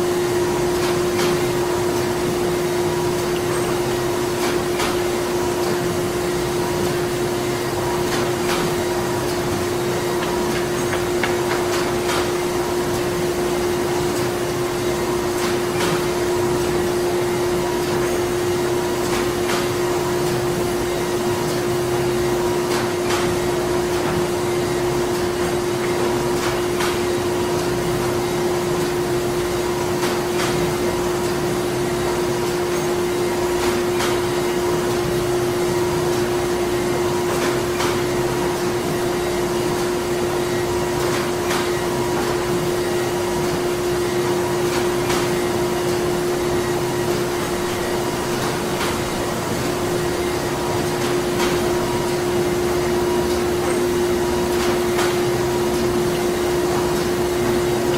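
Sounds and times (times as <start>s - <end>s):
factory machinery humming: 0.0s - 57.9s.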